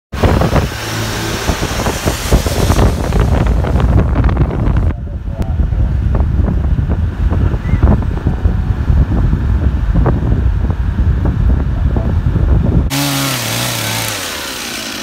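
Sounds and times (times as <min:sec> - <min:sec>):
wind buffeting microphone: 0:00.2 - 0:13.6
vehicle driving rumble: 0:00.2 - 0:14.4.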